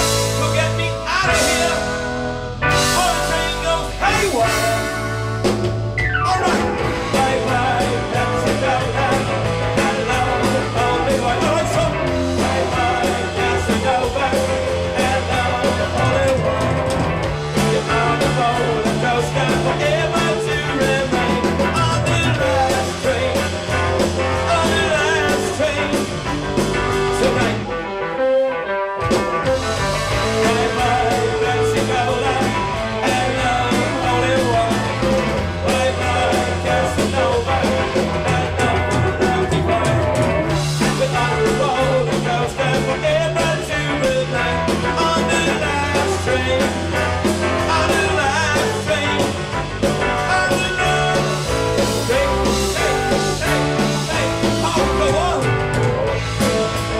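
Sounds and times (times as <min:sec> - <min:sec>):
rock and roll band music: 0:00.0 - 0:56.9.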